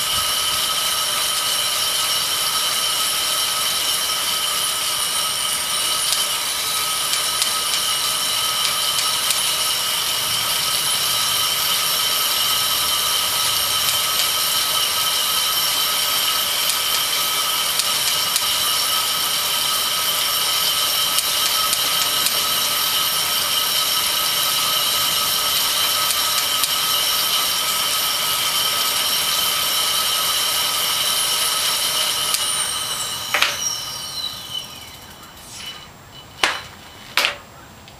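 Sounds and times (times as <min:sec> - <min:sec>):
bike tyres whining on rollers: 0:00.0 - 0:37.9.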